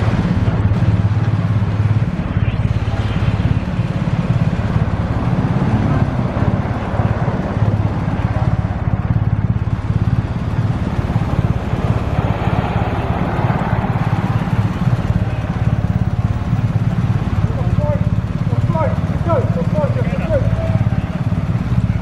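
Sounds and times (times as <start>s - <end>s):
street noise: 0.0s - 22.0s
vehicle engines in slow traffic: 0.0s - 22.0s.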